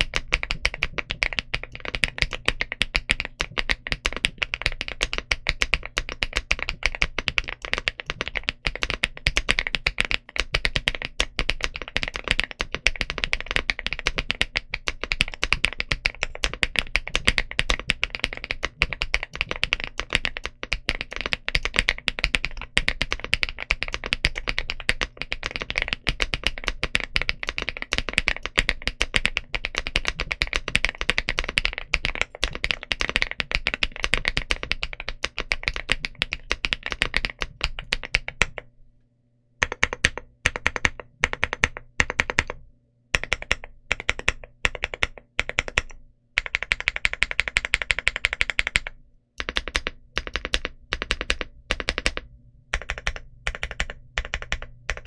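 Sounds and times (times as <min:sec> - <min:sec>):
keyboard typing clacks: 0:00.0 - 0:38.7, 0:39.6 - 0:42.6, 0:43.2 - 0:55.0.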